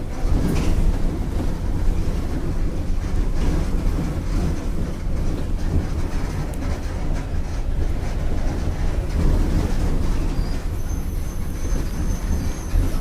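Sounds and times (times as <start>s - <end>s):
diesel bus engine rumbling: 0.0s - 13.0s.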